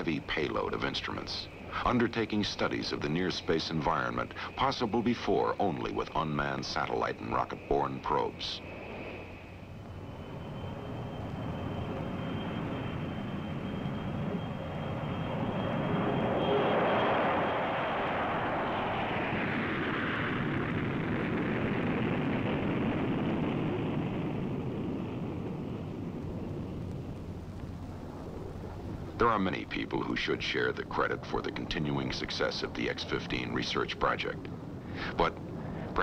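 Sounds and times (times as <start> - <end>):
high engine whine: 0.0 - 36.0
jet engines roaring: 0.0 - 36.0.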